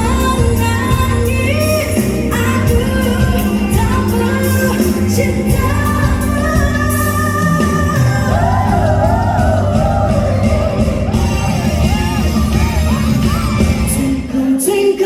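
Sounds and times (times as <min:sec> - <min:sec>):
pop band playing: 0:00.0 - 0:15.0
woman singing: 0:00.0 - 0:15.0.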